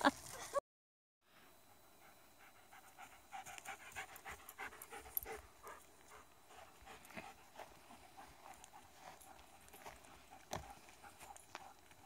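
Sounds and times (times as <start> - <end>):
dog panting rapidly: 2.0 - 12.0.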